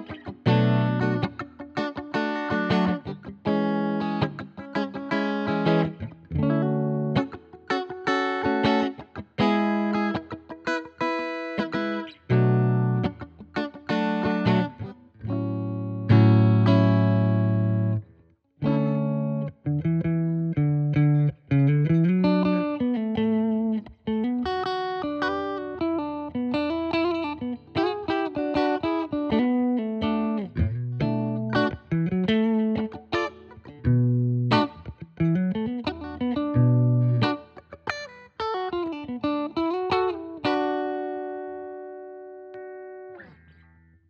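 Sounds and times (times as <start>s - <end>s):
clean electric guitar playing: 0.0s - 44.0s.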